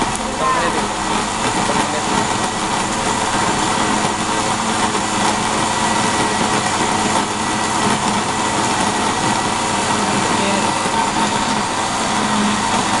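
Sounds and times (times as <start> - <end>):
blender motor grinding: 0.0 - 13.0.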